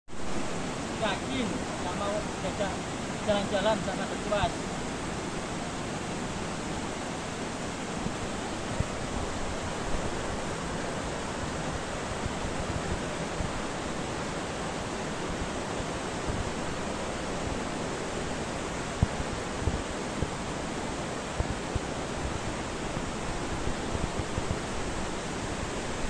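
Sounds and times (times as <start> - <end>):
waterfall rushing: 0.1 - 26.0.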